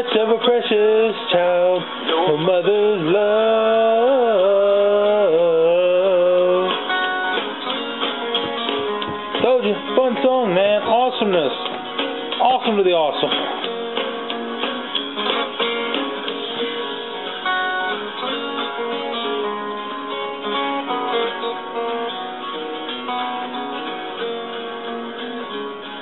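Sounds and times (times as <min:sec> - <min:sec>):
guitar-led country music: 0:00.0 - 0:26.0.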